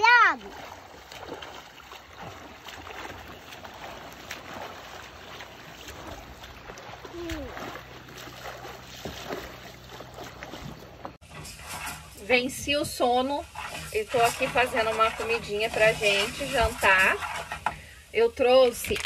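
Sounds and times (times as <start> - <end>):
water lapping around boat: 0.0 - 18.2.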